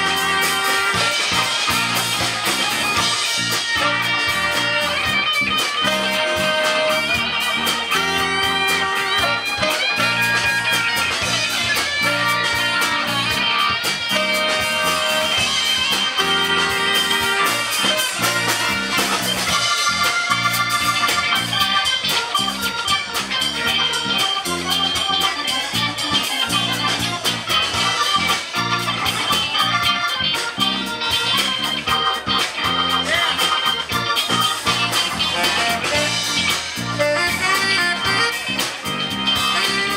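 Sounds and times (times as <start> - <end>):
drums: 0.0 - 39.9
electric guitar: 0.0 - 39.9
keyboard: 0.0 - 39.9
saxophones: 0.0 - 39.9.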